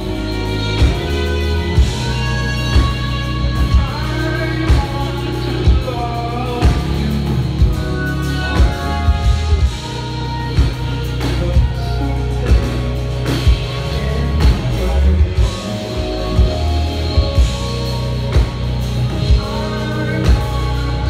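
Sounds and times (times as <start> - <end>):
drums: 0.0 - 21.0
electric bass: 0.0 - 21.0
keyboards: 0.0 - 21.0
trumpet melody: 0.0 - 21.0.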